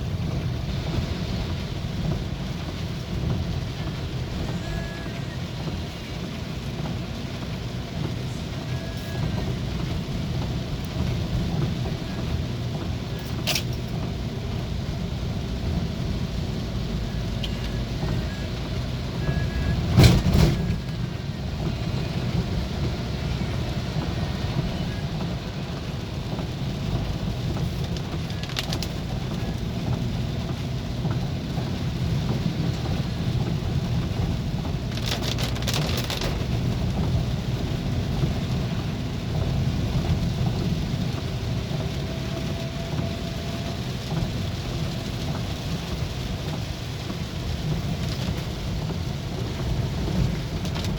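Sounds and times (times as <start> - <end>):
heavy rain: 0.0 - 50.9
vehicle road noise: 0.0 - 50.9.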